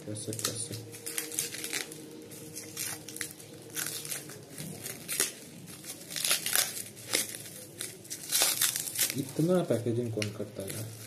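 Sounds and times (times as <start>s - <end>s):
plastic wrap crinkling and tearing: 0.0s - 11.0s.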